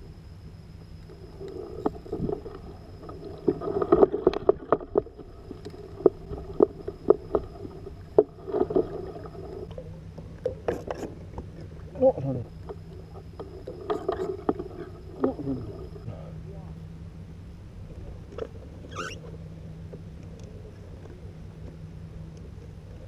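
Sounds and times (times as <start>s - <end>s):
steady low hum: 0.0s - 23.0s
water sloshing against hull: 0.0s - 23.0s.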